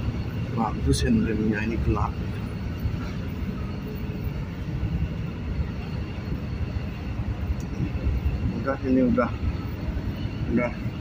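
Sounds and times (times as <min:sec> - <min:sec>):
low rumble of ship engines: 0:00.0 - 0:11.0.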